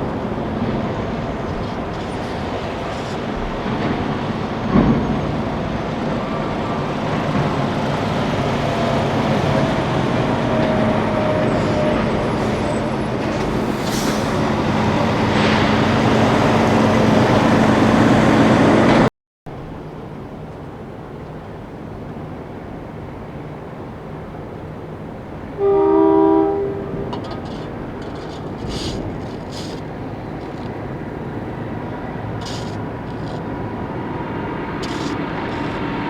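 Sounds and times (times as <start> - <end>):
heavy vehicle engine rumble: 0.0 - 22.0, 24.3 - 36.0
outdoor background noise: 0.0 - 36.0.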